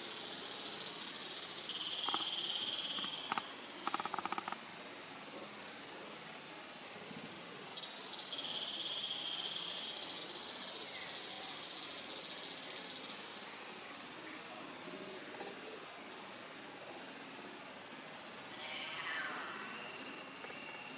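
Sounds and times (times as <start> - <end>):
insects trilling: 0.0 - 20.9
lower insect trill: 0.0 - 20.9.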